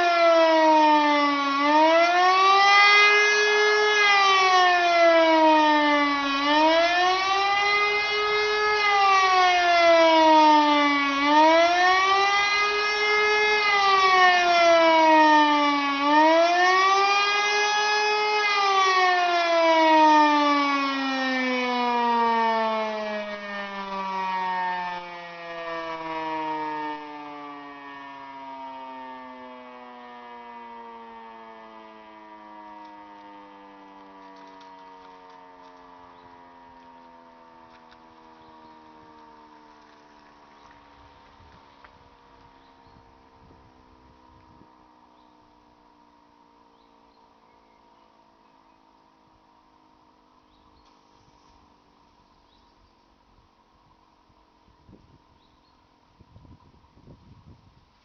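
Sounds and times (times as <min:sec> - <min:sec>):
motor siren wailing: 0:00.0 - 0:57.6.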